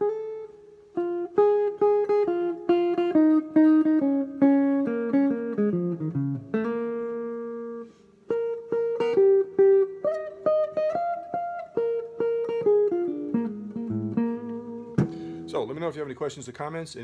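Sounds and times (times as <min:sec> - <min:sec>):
blues guitar playing: 0:00.0 - 0:16.5.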